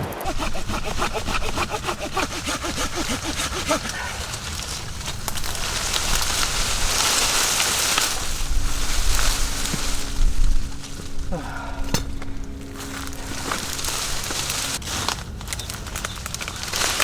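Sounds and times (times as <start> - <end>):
hand saw cutting branch: 0.0 - 11.2, 11.9 - 14.8.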